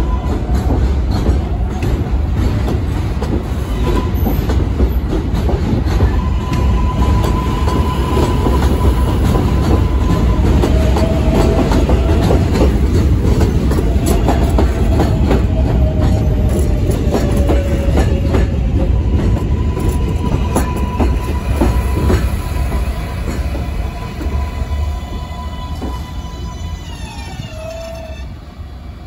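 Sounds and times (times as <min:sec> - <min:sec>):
subway train rumbling past: 0:00.0 - 0:29.0.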